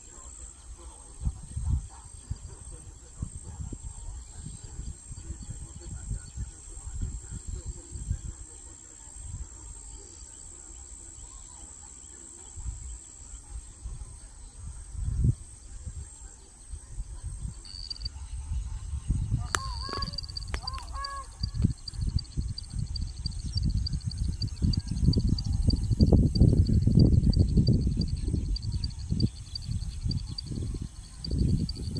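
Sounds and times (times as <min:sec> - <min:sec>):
wind buffeting microphone: 0:00.0 - 0:11.4, 0:12.5 - 0:31.9
high-pitched insect trill: 0:00.1 - 0:31.9.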